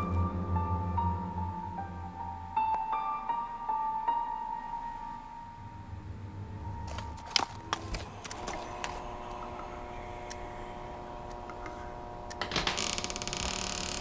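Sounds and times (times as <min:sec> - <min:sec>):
eerie drone: 0:00.0 - 0:03.8, 0:05.4 - 0:14.0.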